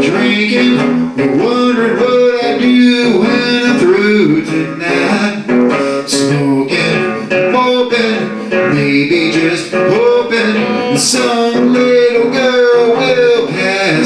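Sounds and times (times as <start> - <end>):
blues band playing: 0.0 - 14.0
electric guitar bending notes: 0.0 - 14.0.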